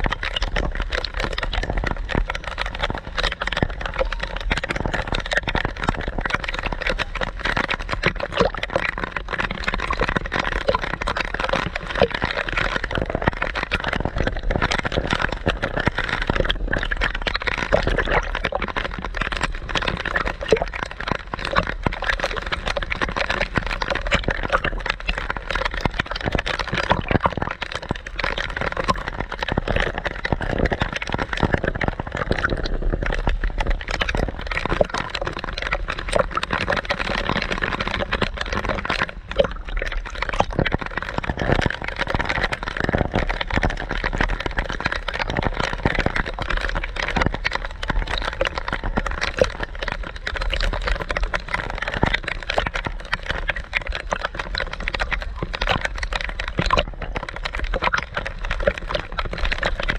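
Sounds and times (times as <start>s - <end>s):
sea water sloshing and splashing: 0.0s - 59.9s.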